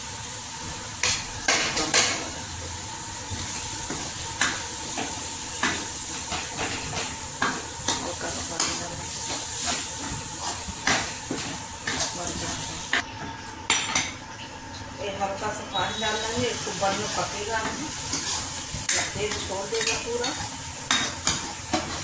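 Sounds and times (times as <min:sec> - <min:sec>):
spices sizzling in a pan: 0:00.0 - 0:13.0, 0:15.7 - 0:22.0.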